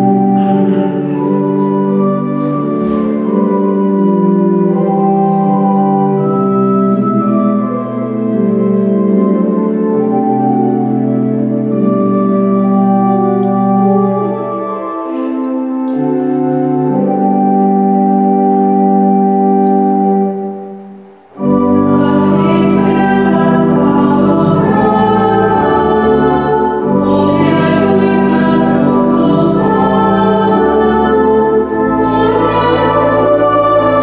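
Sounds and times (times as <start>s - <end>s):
church organ chords: 0.0s - 34.0s.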